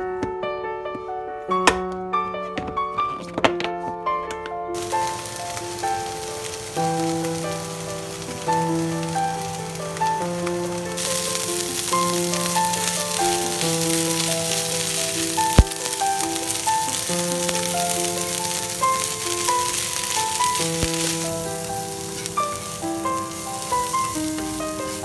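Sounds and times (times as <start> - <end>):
food sizzling in a frying pan: 4.8 - 25.0.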